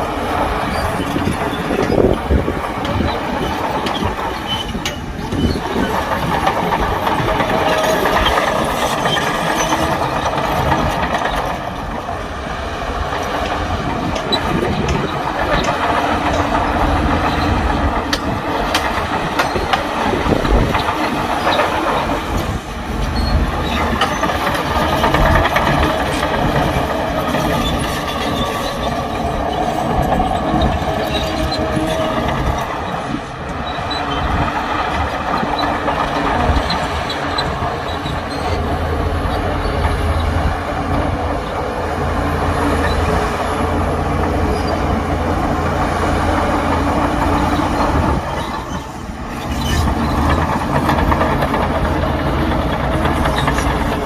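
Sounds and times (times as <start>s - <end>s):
bulldozer engine under load: 0.0s - 54.0s
steel tracks clanking: 0.0s - 54.0s.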